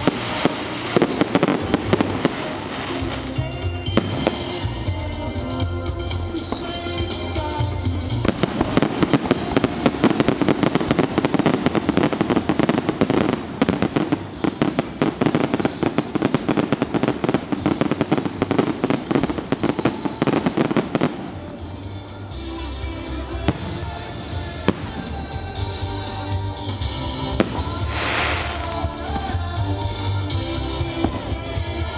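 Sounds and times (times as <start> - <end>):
fireworks banging and crackling: 0.0 - 31.9
music: 0.0 - 31.9.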